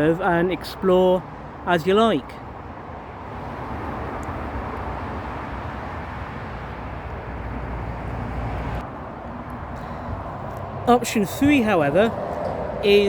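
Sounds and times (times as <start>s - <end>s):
passing vehicle engine and tyres: 0.0s - 13.0s.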